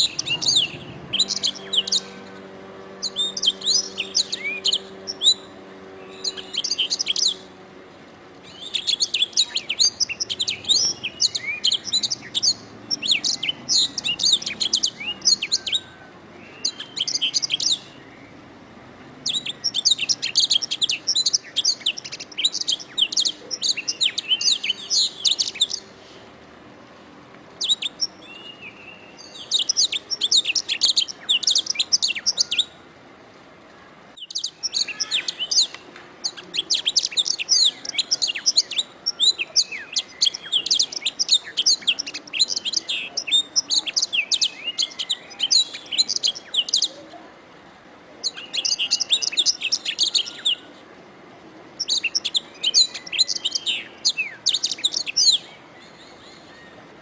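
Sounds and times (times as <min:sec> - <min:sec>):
canary singing trills: 0:00.0 - 0:26.2, 0:27.6 - 0:32.8, 0:34.1 - 0:47.3, 0:48.2 - 0:50.8, 0:51.6 - 0:56.8.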